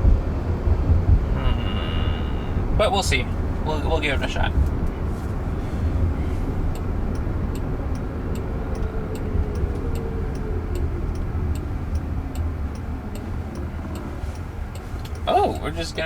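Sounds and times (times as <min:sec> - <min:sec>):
low road rumble: 0:00.0 - 0:16.0
turn signal ticking: 0:00.0 - 0:16.0.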